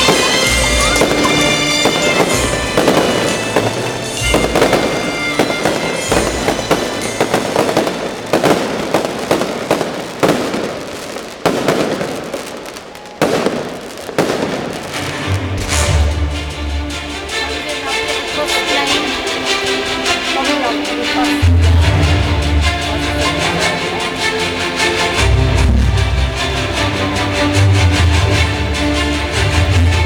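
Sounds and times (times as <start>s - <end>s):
music playing: 0.0s - 11.6s, 14.0s - 30.0s
fireworks bangs and crackling: 0.0s - 28.6s.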